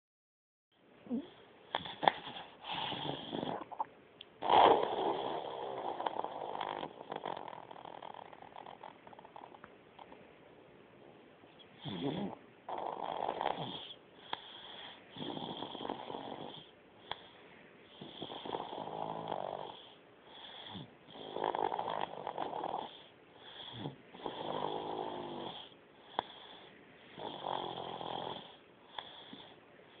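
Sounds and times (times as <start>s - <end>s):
person snoring: 1.1s - 3.8s, 4.4s - 9.6s, 11.8s - 17.2s, 18.0s - 29.6s.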